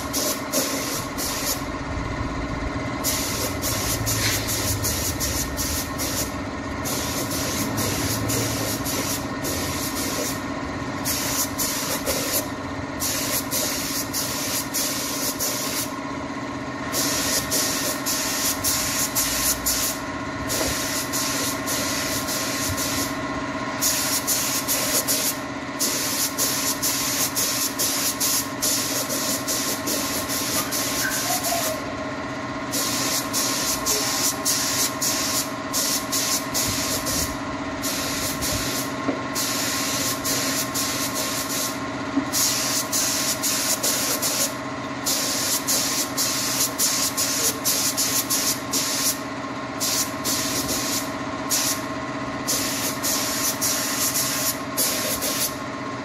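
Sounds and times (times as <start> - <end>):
spray gun hissing: 0.0 - 1.7, 3.0 - 10.4, 11.0 - 16.0, 16.9 - 23.2, 23.8 - 31.8, 32.7 - 49.2, 49.8 - 51.8, 52.5 - 55.6
steady machine hum: 0.0 - 56.0.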